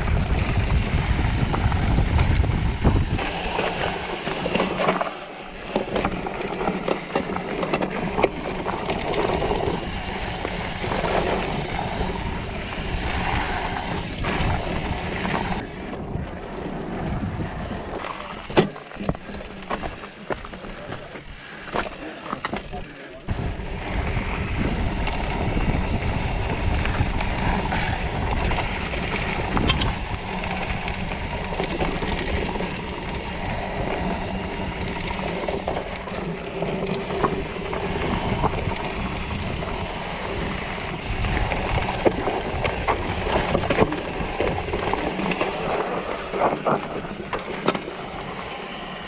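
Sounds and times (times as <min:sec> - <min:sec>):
wind noise on microphone: 0:00.0 - 0:20.0, 0:23.3 - 0:49.0
bike rattling and clicking: 0:00.0 - 0:49.0
tyres rumbling over dirt and rocks: 0:00.0 - 0:49.0.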